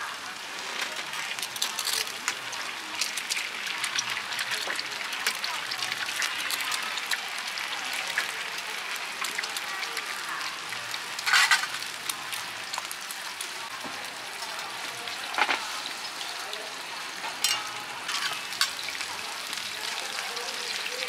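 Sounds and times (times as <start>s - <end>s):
batter sizzling on a griddle: 0.0s - 21.0s.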